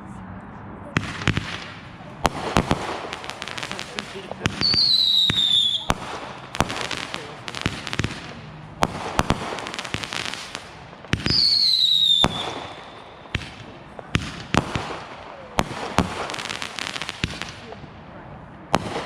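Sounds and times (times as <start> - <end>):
whistling firework: 1.0 - 17.7
fireworks bangs and crackling: 1.0 - 19.0.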